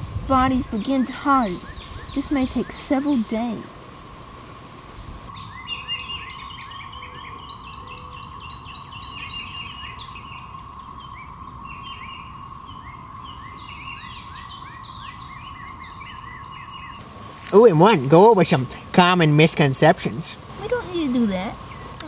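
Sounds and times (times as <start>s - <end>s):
cicadas droning: 0.0s - 22.0s
songbirds chirping: 0.0s - 22.0s.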